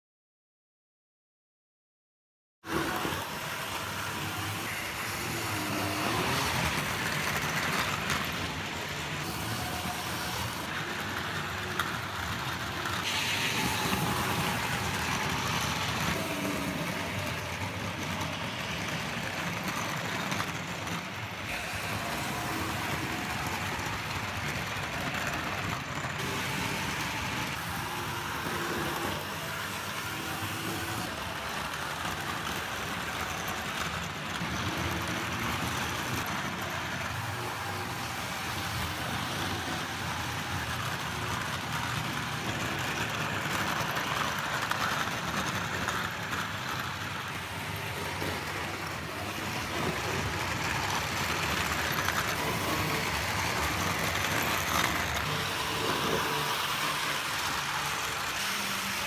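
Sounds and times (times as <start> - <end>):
wheels rolling on rails: 2.6 - 59.0
model train motor whirring: 2.7 - 59.0.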